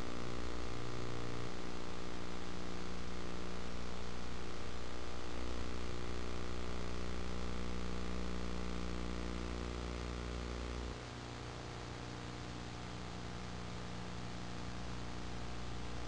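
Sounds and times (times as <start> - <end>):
constant hiss: 0.0 - 16.0
electrical hum: 0.0 - 16.0.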